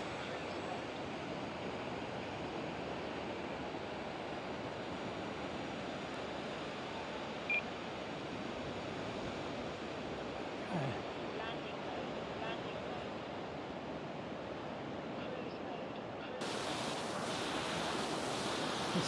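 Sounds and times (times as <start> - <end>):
surf: 0.0 - 19.0
wind: 0.0 - 19.0.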